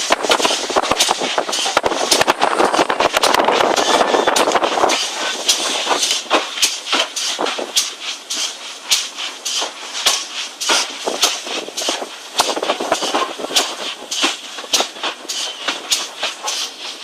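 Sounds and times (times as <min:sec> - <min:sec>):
train rushing noise: 0:00.0 - 0:17.0
wheels clicking over track: 0:00.0 - 0:17.0.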